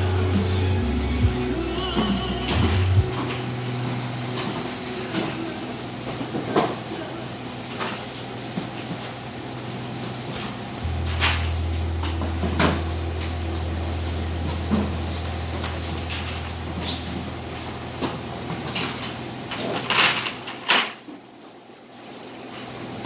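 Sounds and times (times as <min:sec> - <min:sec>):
steady low hum: 0:00.0 - 0:20.7.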